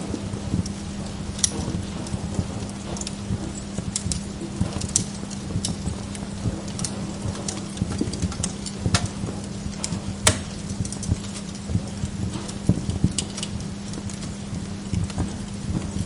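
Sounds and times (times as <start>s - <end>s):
steady low hum: 0.0s - 16.0s
wood fire crackling: 0.0s - 16.0s.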